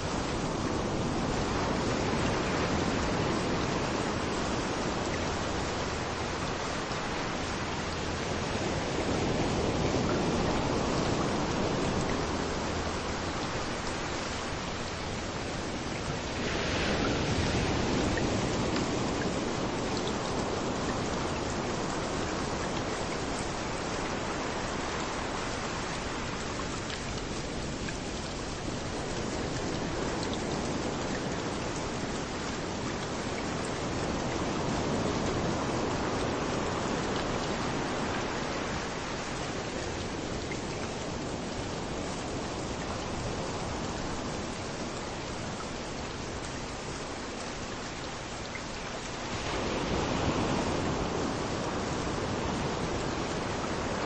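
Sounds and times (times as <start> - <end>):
rain falling: 0.0 - 54.0
waves washing on a beach: 0.0 - 54.0.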